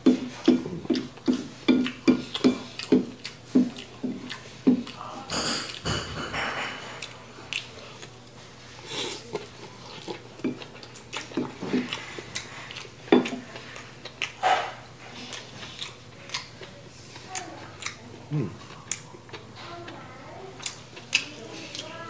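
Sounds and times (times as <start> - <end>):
wet chewing and mouth smacks: 0.0 - 5.9, 7.0 - 20.0, 20.6 - 21.9.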